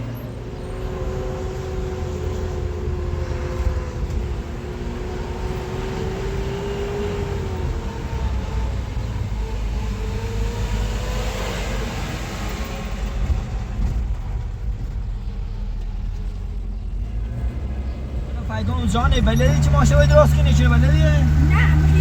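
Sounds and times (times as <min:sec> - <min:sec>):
car engine hum and road rumble: 0:00.0 - 0:22.0.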